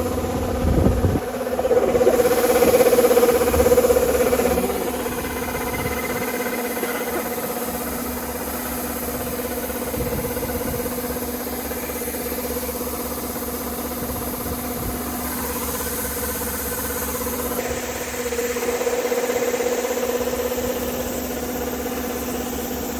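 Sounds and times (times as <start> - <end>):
combine harvester diesel engine: 0.0 - 22.9.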